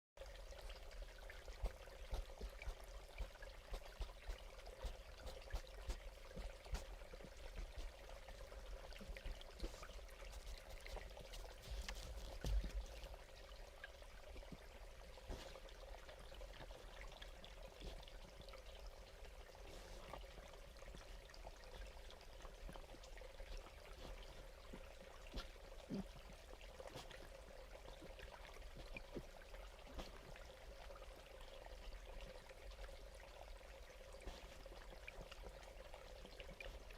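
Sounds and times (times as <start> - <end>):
faint trickling water: 0.2 - 36.9.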